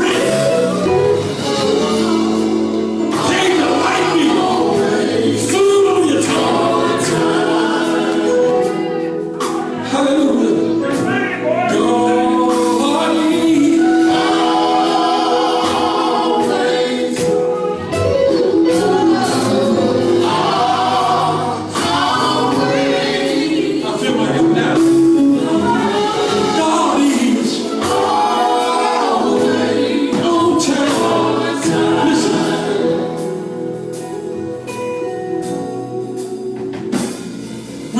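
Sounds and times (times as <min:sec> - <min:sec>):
group singing gospel: 0:00.0 - 0:37.9
instrumental backing: 0:00.0 - 0:37.9.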